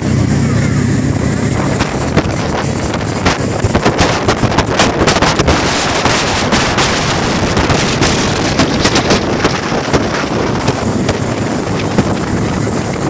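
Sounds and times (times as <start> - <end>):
low hum of ship engines: 0.0 - 13.0
wind buffeting microphone: 0.0 - 13.0.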